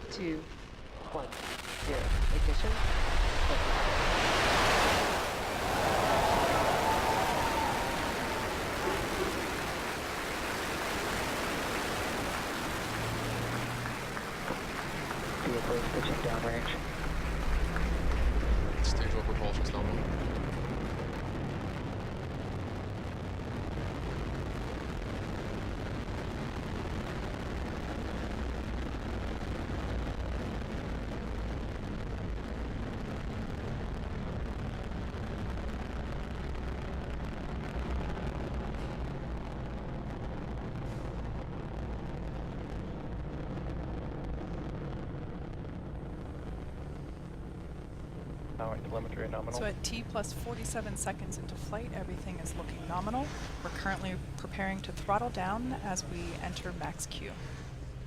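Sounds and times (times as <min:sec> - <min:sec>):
rocket engines roaring: 0:00.0 - 0:58.0.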